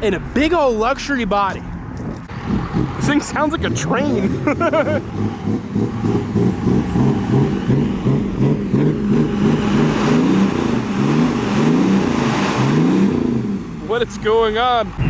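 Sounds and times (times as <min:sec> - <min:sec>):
car engine revving: 0:01.9 - 0:15.0.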